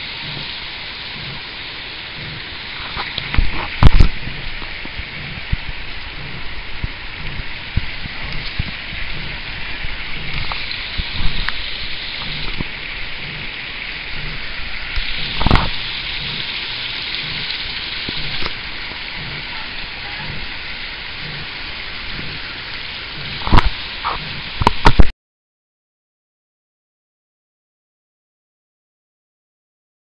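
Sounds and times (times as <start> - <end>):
creek running over rocks: 0.0 - 25.1.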